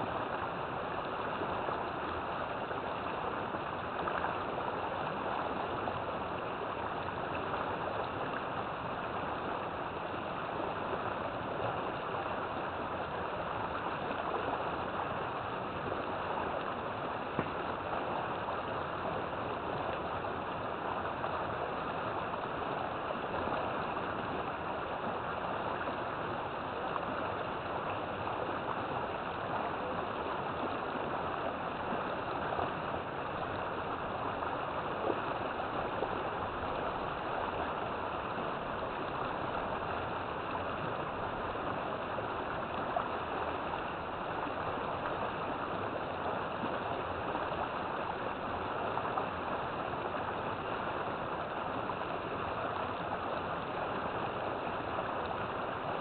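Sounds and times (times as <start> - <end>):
river water rushing and gurgling: 0.0 - 56.0.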